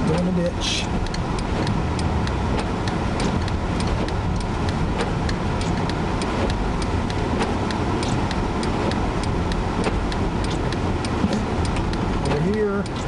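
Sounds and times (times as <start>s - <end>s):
car interior rumble: 0.0s - 13.0s
sharp irregular ticks: 0.0s - 13.0s.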